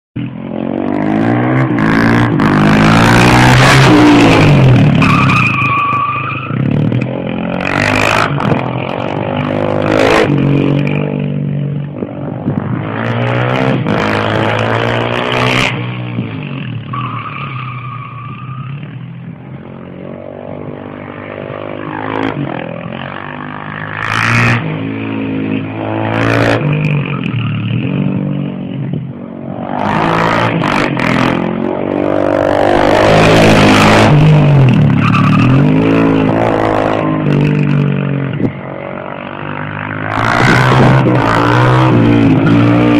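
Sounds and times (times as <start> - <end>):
motorcycle engine revving: 6.3 - 17.0, 18.3 - 42.9.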